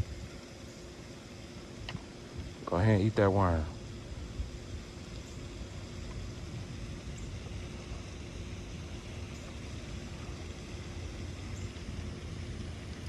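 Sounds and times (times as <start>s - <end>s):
deep outdoor rumble: 0.0s - 13.0s
faint constant hum: 0.0s - 13.0s.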